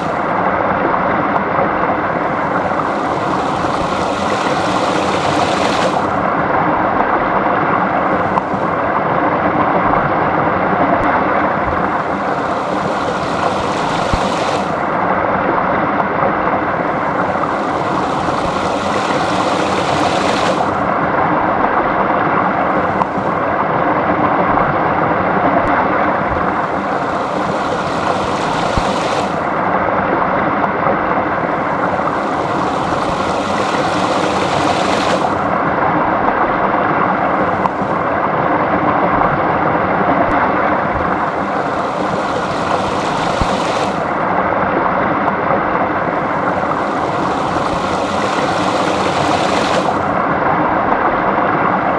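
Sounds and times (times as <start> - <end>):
stream flowing: 0.0 - 51.9.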